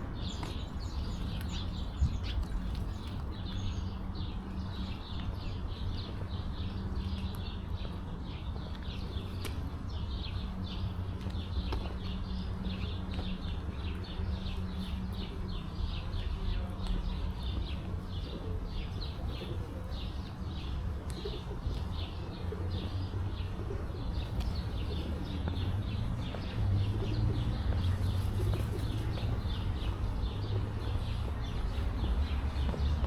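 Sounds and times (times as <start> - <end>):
small birds chirping: 0.1 - 33.0.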